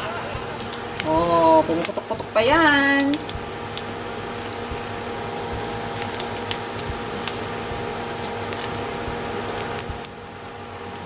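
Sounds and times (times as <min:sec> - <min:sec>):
chicken skin sizzling and popping: 0:00.0 - 0:11.0
steady hum: 0:00.0 - 0:11.0.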